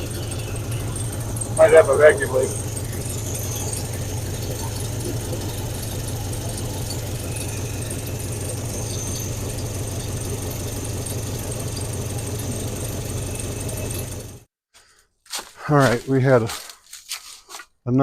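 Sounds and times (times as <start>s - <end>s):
pickup engine idling: 0.0s - 14.5s.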